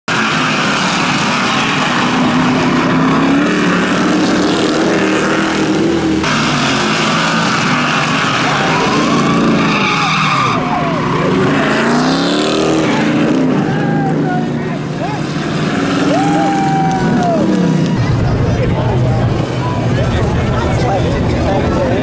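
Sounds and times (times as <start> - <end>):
race car engines: 0.1 - 22.0.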